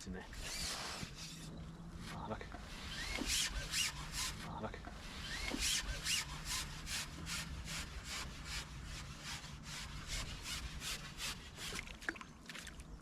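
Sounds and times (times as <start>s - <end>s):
fishing pole rubbing over roller: 0.0s - 12.0s.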